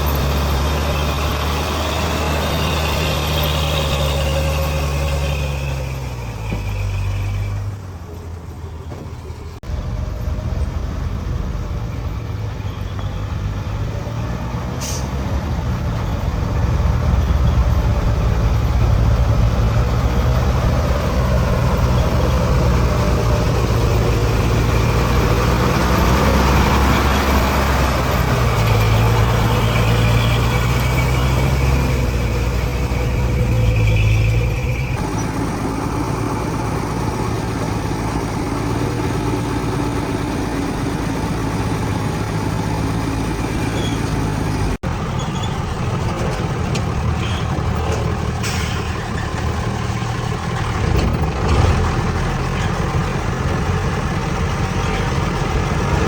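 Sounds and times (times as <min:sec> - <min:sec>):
heavy diesel engine running: 0:09.2 - 0:56.0.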